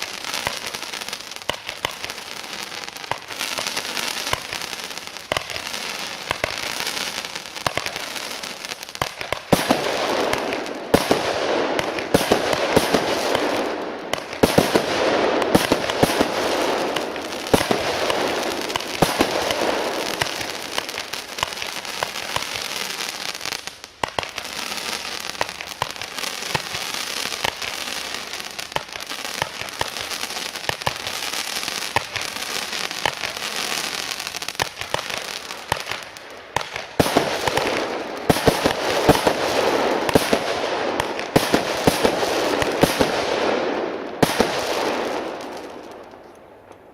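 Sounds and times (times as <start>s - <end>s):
fireworks crackling: 0.0s - 46.9s
fireworks shots and bangs: 0.0s - 46.9s.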